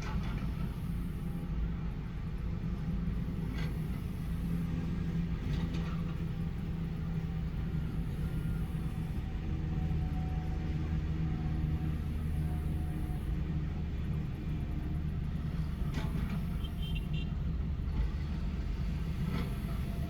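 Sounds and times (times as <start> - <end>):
diesel engines rumbling: 0.0 - 20.0.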